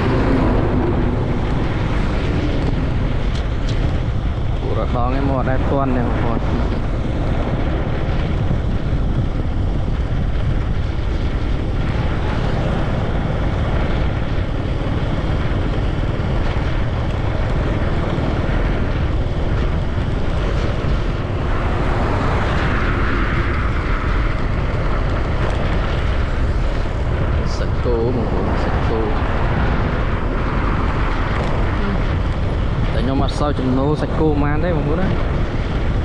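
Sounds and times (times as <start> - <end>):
moving vehicle rumble: 0.0 - 36.0
wind buffeting microphone: 0.0 - 36.0.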